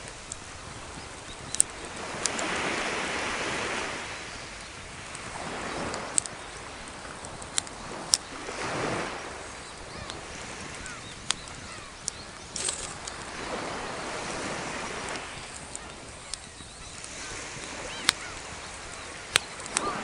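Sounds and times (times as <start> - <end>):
waves washing onto shore: 0.0 - 20.0.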